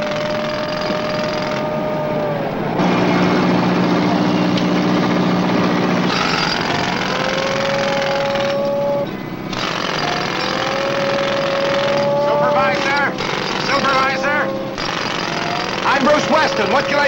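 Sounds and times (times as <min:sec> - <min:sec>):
construction machinery engine drone: 0:00.0 - 0:17.0.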